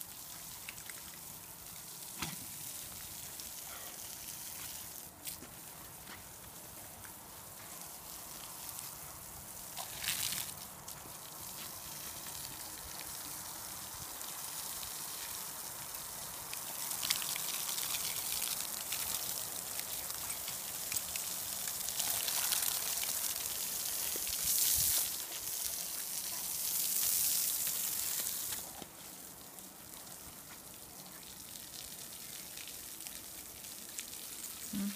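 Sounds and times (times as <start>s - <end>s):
hose spray splashing on paving: 0.0s - 34.9s.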